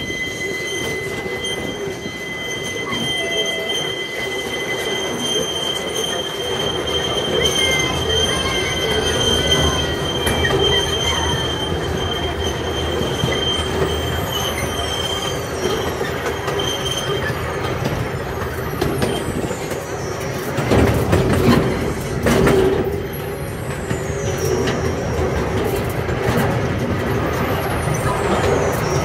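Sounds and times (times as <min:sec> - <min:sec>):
high wheel squeal: 0:00.0 - 0:29.0
train wheels rumbling on rail: 0:00.0 - 0:29.0.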